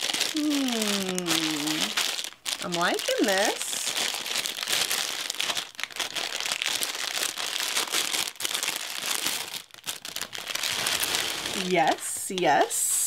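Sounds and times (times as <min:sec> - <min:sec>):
plastic bag crinkling: 0:00.0 - 0:12.8.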